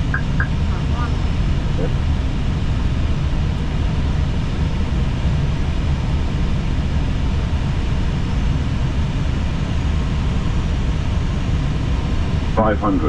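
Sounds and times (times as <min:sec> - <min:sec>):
cockpit airflow and engine rumble: 0:00.0 - 0:13.0.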